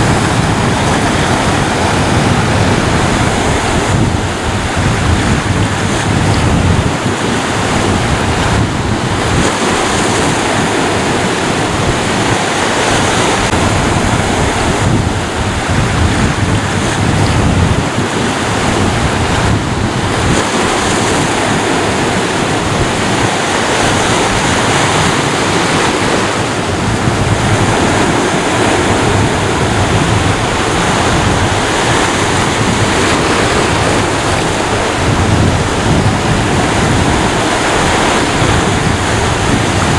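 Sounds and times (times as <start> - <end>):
waves breaking on shore: 0.0 - 39.9
wind on microphone: 0.0 - 39.9.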